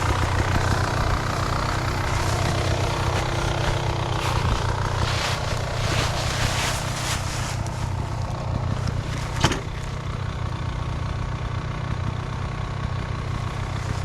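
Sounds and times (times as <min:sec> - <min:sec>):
dirt bike engine idling: 0:00.0 - 0:14.0.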